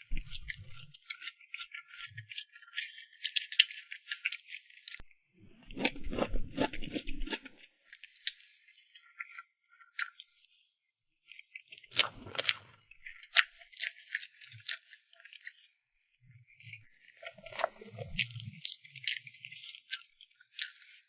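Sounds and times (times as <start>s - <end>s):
chewing and squishing: 0.1s - 10.6s, 11.2s - 15.7s, 16.6s - 21.0s.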